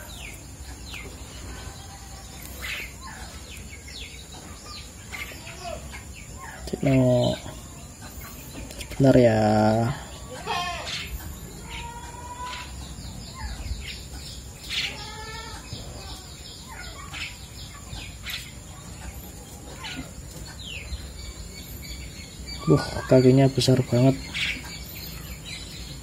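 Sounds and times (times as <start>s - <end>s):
nestlings chirping: 0.0s - 26.0s.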